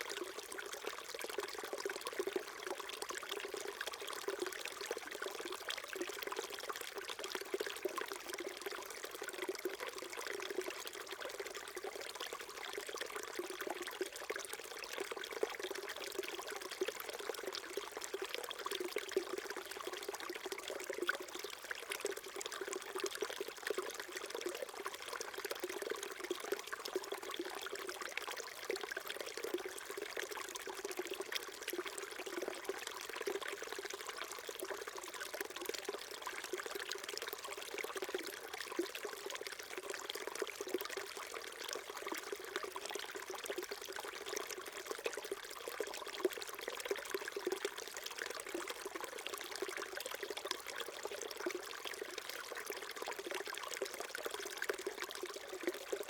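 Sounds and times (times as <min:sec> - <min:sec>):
small stream trickling: 0:00.0 - 0:56.0.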